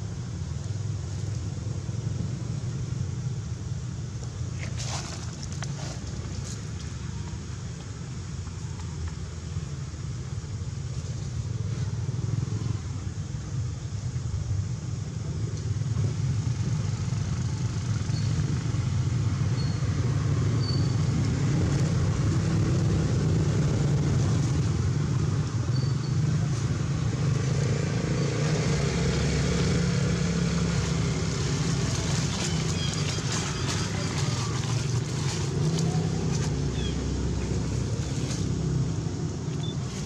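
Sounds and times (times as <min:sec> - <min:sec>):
engine rumbling: 0:00.0 - 0:40.0.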